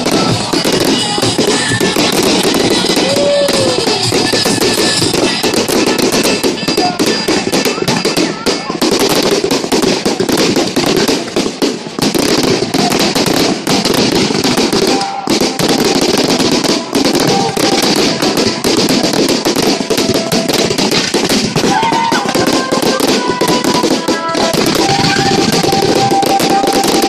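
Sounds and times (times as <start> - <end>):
fireworks banging and crackling: 0.0 - 27.0.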